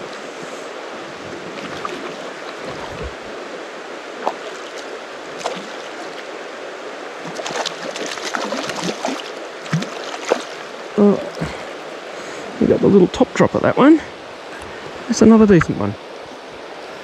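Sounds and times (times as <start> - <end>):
water splashes: 0.0 - 16.4
river water flowing: 0.0 - 17.0.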